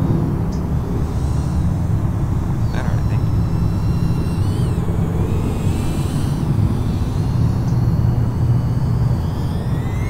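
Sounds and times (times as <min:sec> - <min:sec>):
drone motors whining: 0:00.0 - 0:10.0
steady low rumble: 0:00.0 - 0:10.0.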